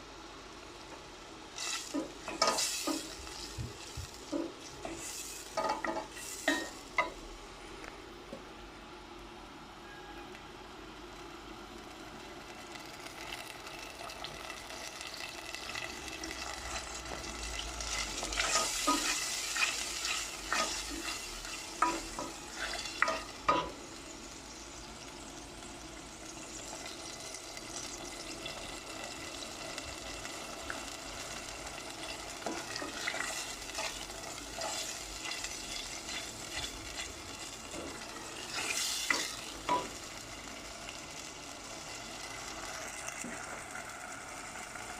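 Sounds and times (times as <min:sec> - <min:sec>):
sprouts sizzling in oil: 0:01.3 - 0:07.2, 0:10.9 - 0:44.9.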